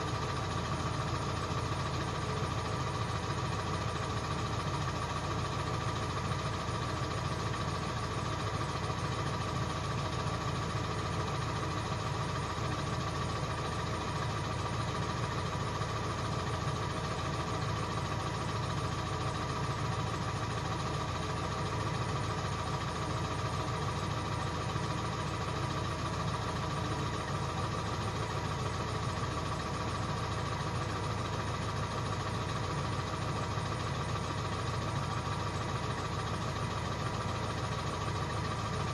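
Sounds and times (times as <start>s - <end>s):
diesel engine idling: 0.0s - 38.9s
steady engine whine: 0.0s - 38.9s.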